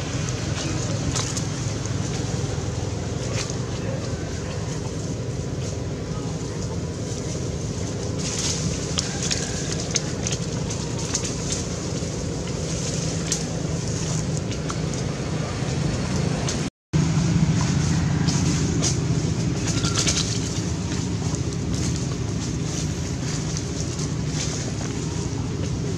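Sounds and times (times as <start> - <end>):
dry leaves crackling and rustling: 0.0 - 25.9
steady low rumble: 0.0 - 25.9.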